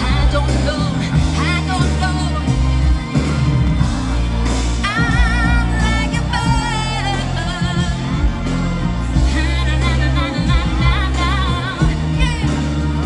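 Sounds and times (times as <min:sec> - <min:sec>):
live pop band with heavy bass: 0:00.0 - 0:13.0
woman singing: 0:00.0 - 0:13.0.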